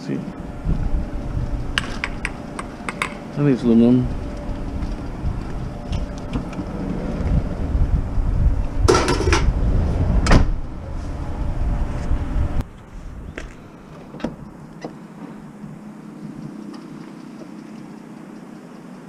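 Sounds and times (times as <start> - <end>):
low rumble: 0.0 - 16.7.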